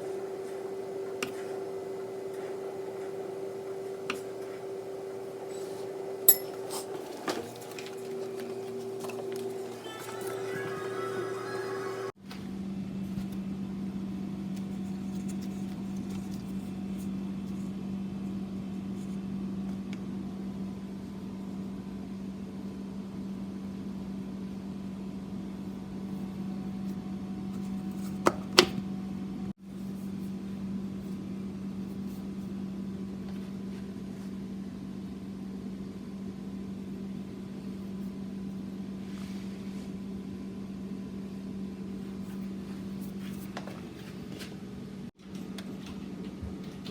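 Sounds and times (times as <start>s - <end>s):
microwave oven humming: 0.0s - 29.6s, 30.3s - 46.9s.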